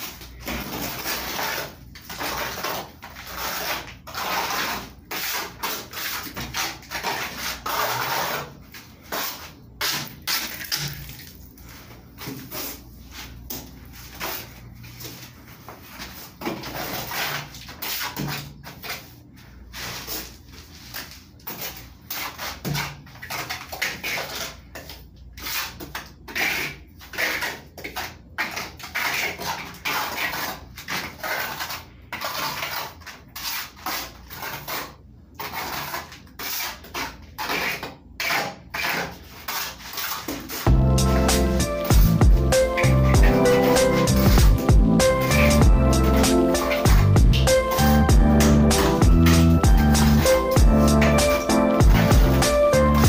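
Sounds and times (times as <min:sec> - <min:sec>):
trowel scraping wet plaster: 0:00.0 - 0:53.0.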